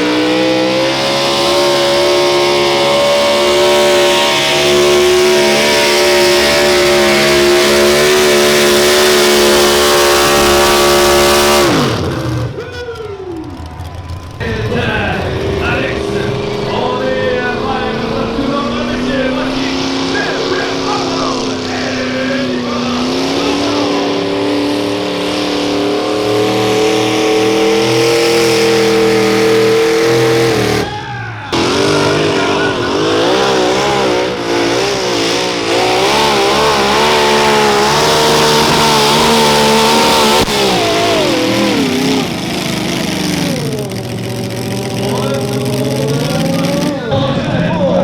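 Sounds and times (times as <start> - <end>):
tractor engine at full throttle: 0.0 - 48.0.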